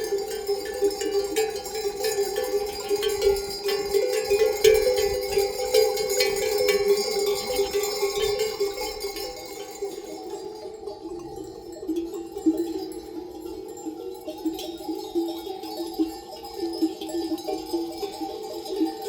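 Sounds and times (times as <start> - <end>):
livestock bells clanking: 0.0 - 19.0.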